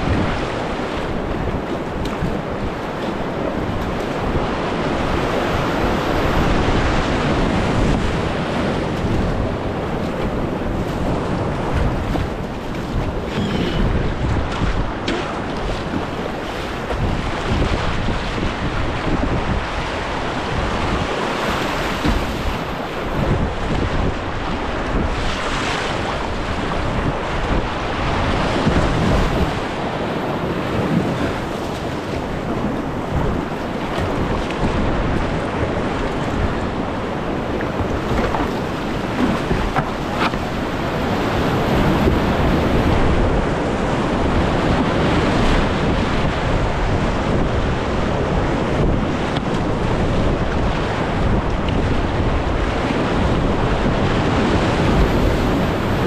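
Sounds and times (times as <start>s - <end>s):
rushing whitewater: 0.0s - 56.0s
wind buffeting microphone: 0.0s - 56.0s.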